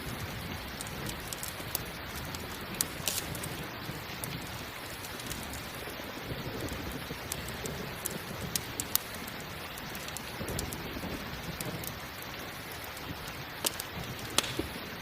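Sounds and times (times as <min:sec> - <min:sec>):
crackling campfire: 0:00.0 - 0:15.0
fire pops: 0:00.0 - 0:15.0
steady rain falling: 0:00.0 - 0:15.0.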